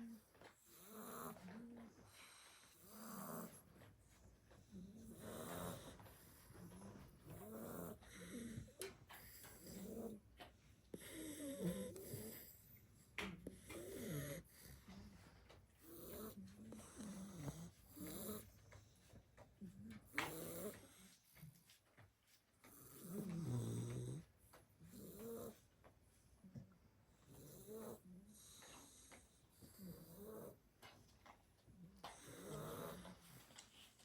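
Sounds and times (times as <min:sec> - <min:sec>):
puppies snoring: 0:00.0 - 0:34.0.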